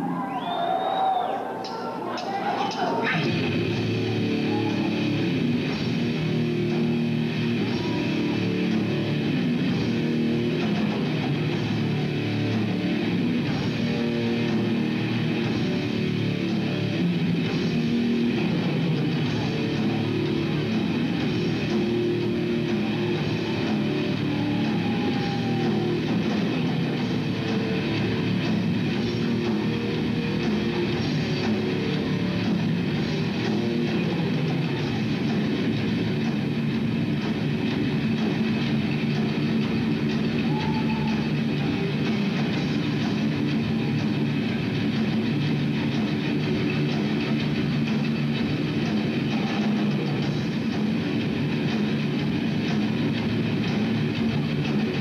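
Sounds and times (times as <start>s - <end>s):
distorted electric guitars: 1.6s - 55.0s
bass guitar: 3.0s - 55.0s
drum kit: 3.0s - 55.0s.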